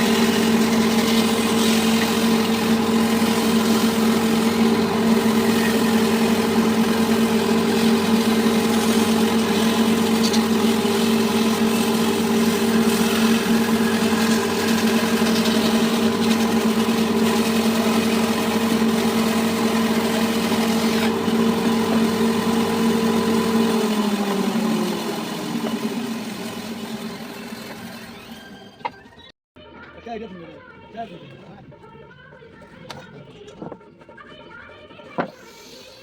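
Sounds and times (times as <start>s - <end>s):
power tool motor humming: 0.0s - 29.1s
power tool motor spinning down: 0.0s - 29.2s.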